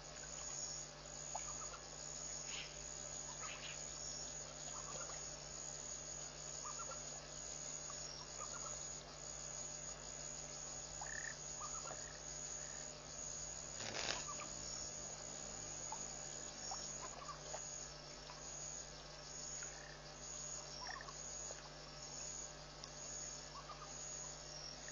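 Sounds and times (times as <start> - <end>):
high insect trill: 0.0 - 24.9.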